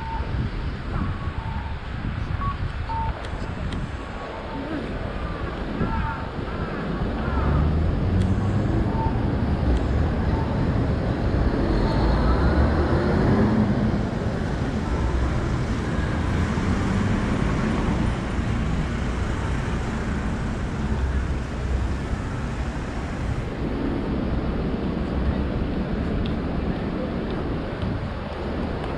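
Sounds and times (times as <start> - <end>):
rumble of passing cars: 0.0 - 28.9.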